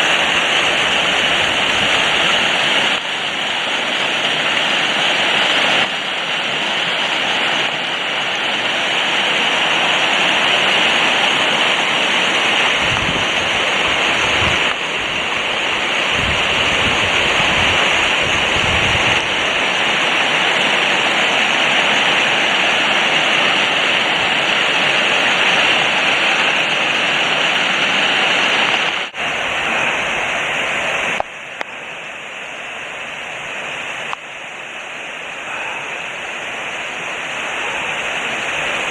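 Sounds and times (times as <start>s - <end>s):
cascading water rushing: 0.0s - 38.9s.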